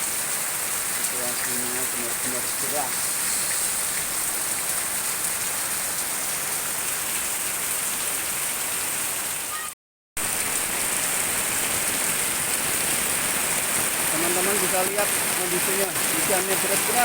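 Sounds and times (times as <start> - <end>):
heavy rain hissing: 0.0 - 6.8, 10.2 - 17.0.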